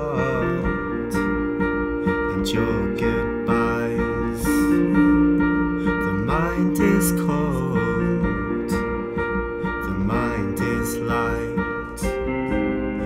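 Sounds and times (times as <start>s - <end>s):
electric keyboard chords: 0.0s - 13.0s
man singing: 0.0s - 13.0s.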